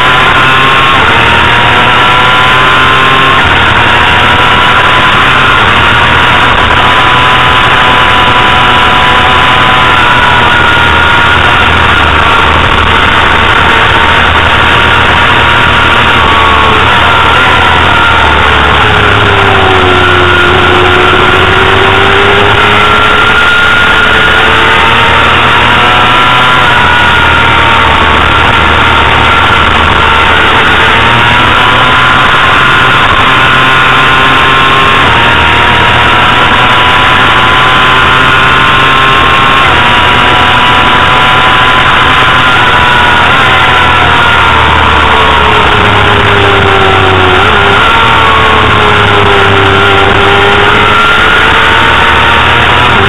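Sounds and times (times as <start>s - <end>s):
motorcycle engine running hard: 0.0s - 53.0s.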